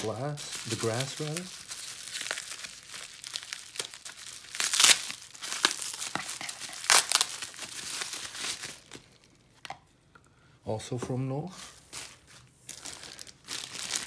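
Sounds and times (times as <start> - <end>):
bubble wrap crinkling: 0.0 - 9.6, 11.4 - 14.0.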